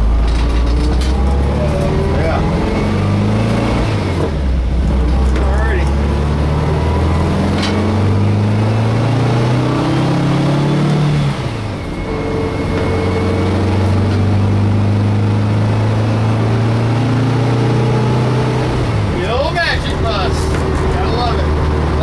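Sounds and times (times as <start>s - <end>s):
air-cooled engine accelerating: 0.0s - 22.0s.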